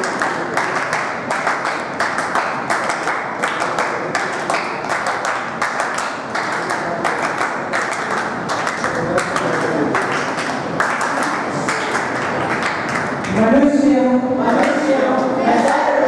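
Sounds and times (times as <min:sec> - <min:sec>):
applause: 0:00.0 - 0:13.8.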